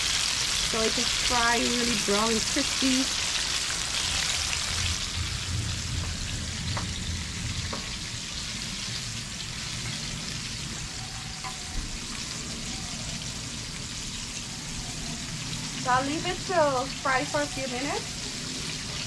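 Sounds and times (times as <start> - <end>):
fish sizzling in frying oil: 0.0 - 19.0.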